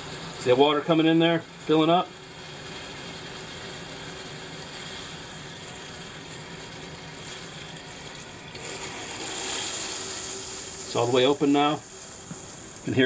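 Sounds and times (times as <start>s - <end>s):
water rushing through pipes: 2.2s - 13.0s.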